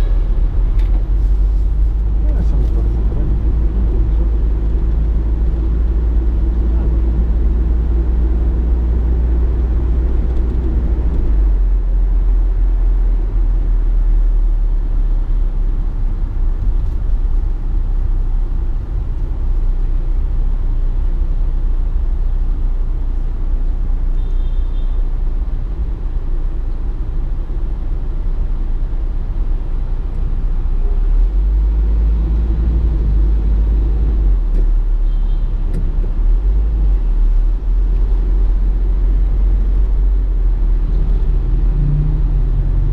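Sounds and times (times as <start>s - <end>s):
car engine rumble: 0.0s - 42.9s
road noise: 0.0s - 42.9s.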